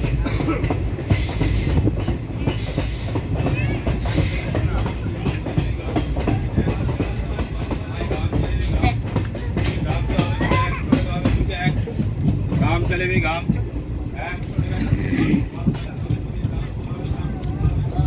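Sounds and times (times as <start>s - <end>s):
train rumble from inside coach: 0.0s - 18.0s
wheels rattling on rails: 0.0s - 18.0s.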